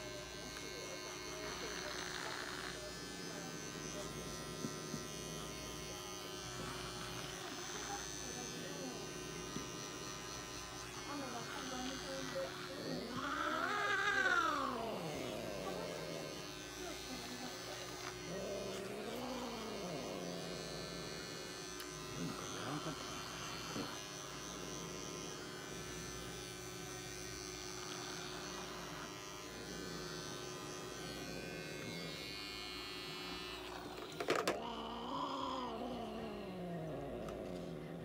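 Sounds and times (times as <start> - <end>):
electric pet clippers running: 0.0 - 38.0.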